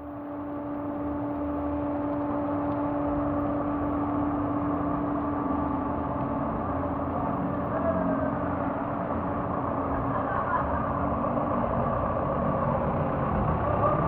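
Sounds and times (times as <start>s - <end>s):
jeep engines running slowly: 0.0s - 14.0s
steady hum: 0.0s - 14.0s.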